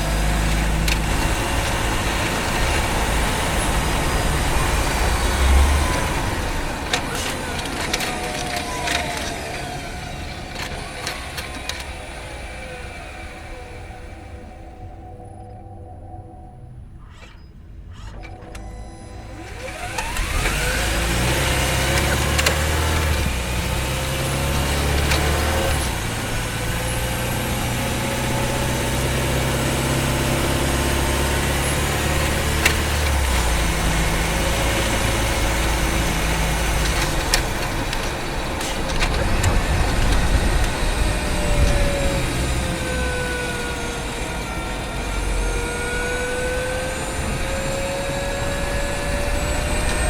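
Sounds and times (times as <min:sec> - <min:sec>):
car engine running: 0:00.0 - 0:15.2, 0:17.8 - 0:50.0
hybrid drive whine: 0:00.0 - 0:50.0.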